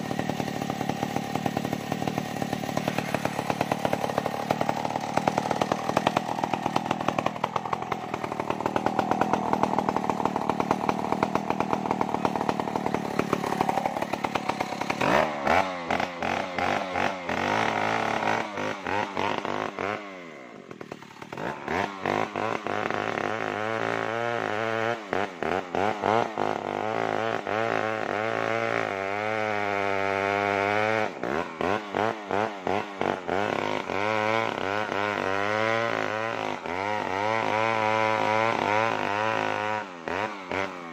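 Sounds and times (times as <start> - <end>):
chainsaw cutting tree trunk: 0.0 - 40.9.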